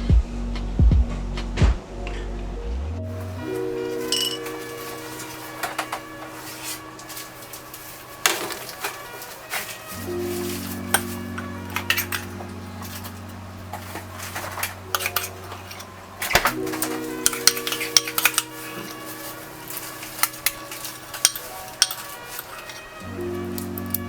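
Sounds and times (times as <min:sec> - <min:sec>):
metal utensil clinking on dishware: 0:03.1 - 0:24.0.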